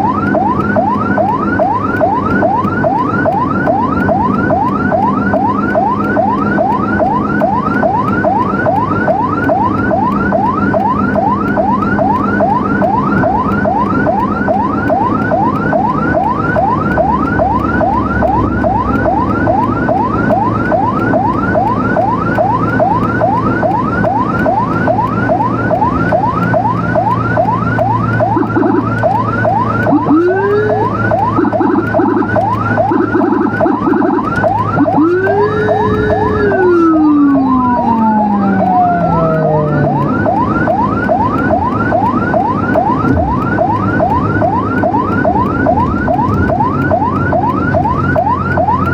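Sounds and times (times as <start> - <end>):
engine hum: 0.0 - 48.9
second siren pulsing: 0.0 - 48.9
siren yelping: 0.0 - 48.9.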